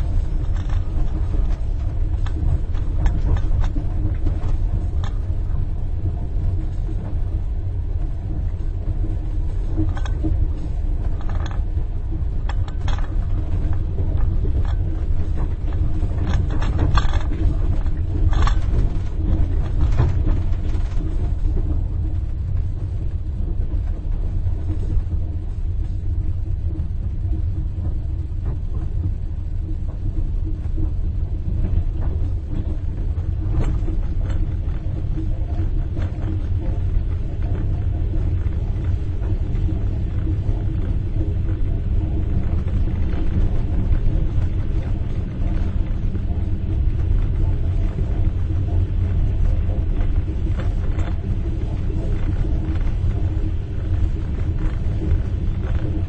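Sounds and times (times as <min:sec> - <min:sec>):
moving train rumble: 0:00.0 - 0:56.0.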